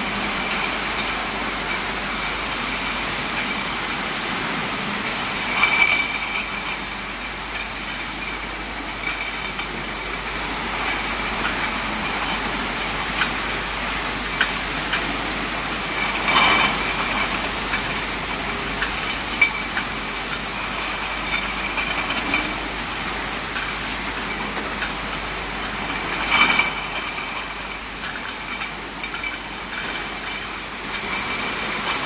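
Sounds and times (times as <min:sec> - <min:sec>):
bottling machinery with high whine: 0:00.0 - 0:32.0.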